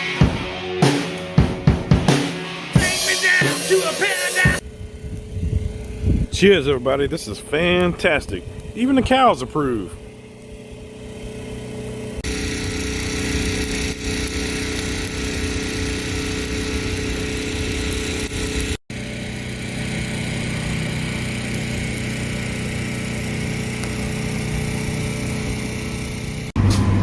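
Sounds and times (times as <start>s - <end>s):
motor humming: 2.8s - 27.0s.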